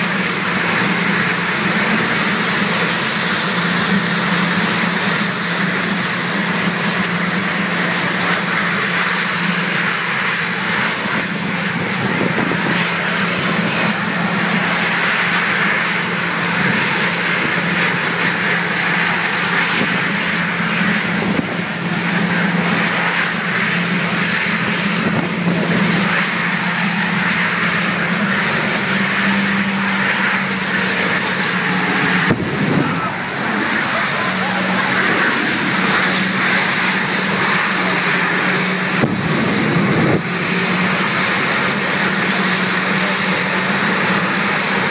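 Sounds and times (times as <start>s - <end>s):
jet engine roaring and whining: 0.0s - 44.9s.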